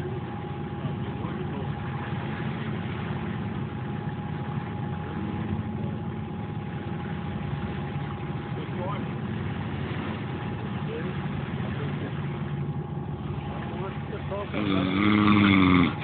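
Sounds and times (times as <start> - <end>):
boat engine idling: 0.0 - 16.0.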